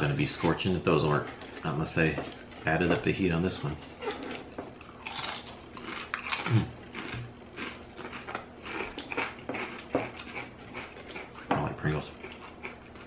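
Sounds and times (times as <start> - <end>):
crisps being crunched and chewed: 0.3 - 13.0.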